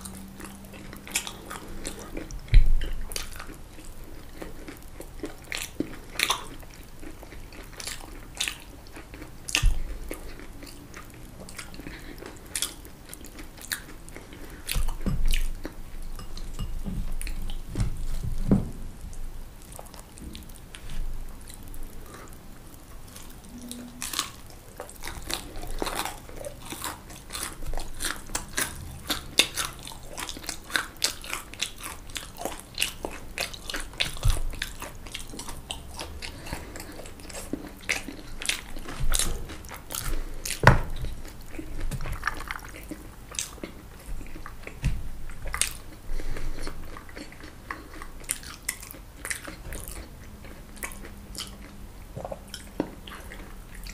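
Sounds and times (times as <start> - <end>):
chewing crispy fried food: 0.0 - 18.2, 19.1 - 53.9.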